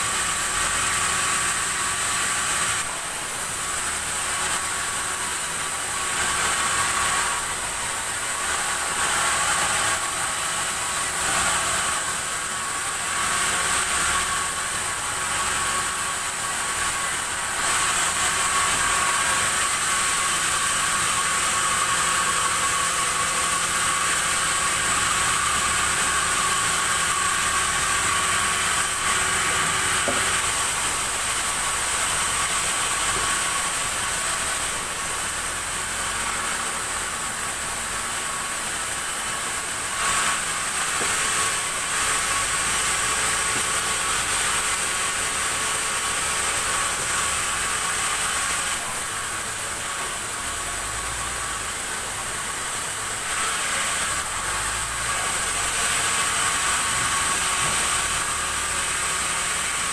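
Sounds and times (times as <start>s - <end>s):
sawmill saw whining: 0.0s - 59.9s.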